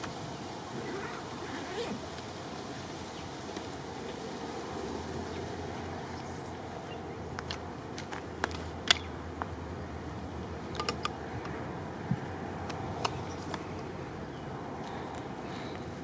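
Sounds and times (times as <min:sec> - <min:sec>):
outdoor air noise: 0:00.0 - 0:16.0.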